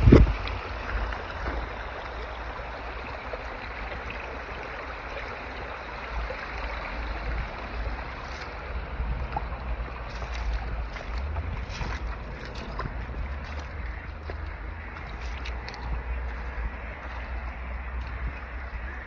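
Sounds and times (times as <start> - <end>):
low rumble on microphone: 0.0 - 19.0
spring water splashing into stream: 0.0 - 19.0.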